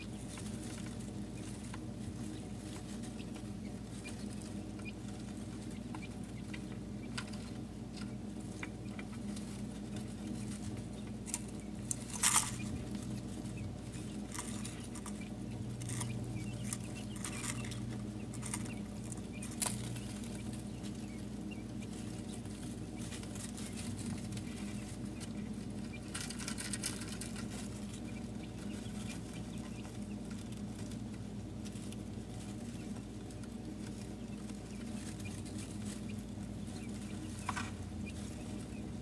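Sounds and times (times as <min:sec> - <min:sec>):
chicks peeping: 0:00.0 - 0:39.0
steady low hum: 0:00.0 - 0:39.0.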